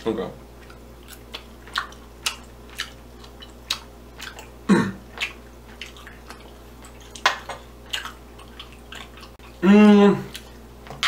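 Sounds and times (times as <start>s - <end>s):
person chewing: 0.6s - 11.0s.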